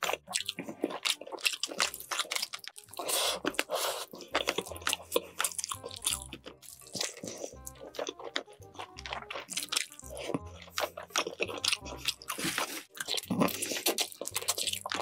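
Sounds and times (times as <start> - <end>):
chewing meat with wet crackles: 0.0 - 15.0.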